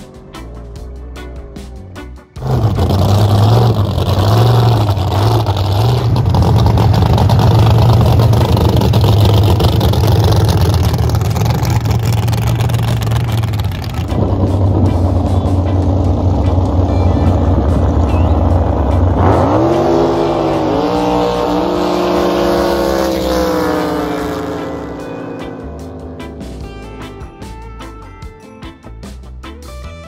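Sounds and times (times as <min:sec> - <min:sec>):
distant boat engine: 0:00.0 - 0:28.1
jet boat speeding past: 0:02.4 - 0:27.1.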